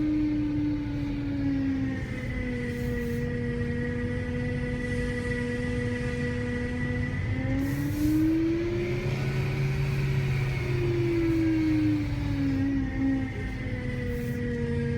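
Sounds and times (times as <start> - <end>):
engine running with whine: 0.0 - 14.9.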